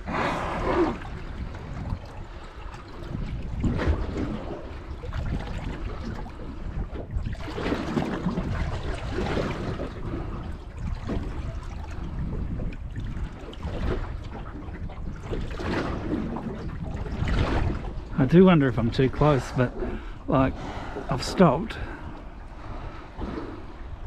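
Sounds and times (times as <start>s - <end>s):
water lapping against boat hull: 0.0s - 24.0s
wind buffeting microphone: 0.0s - 24.0s.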